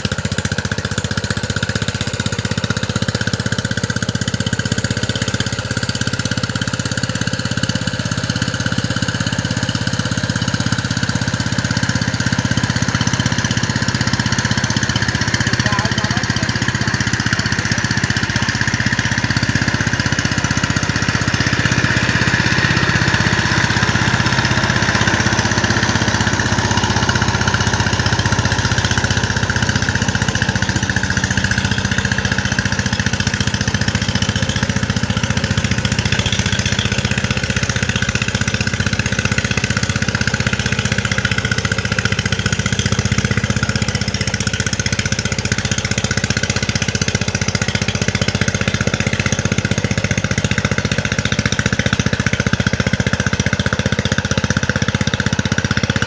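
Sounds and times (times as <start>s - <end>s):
diesel tiller engine running: 0.0s - 56.0s.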